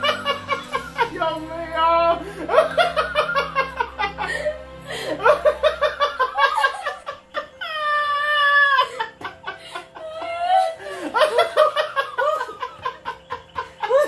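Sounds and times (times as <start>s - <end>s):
man and woman laughing: 0.0s - 1.2s, 2.2s - 14.0s.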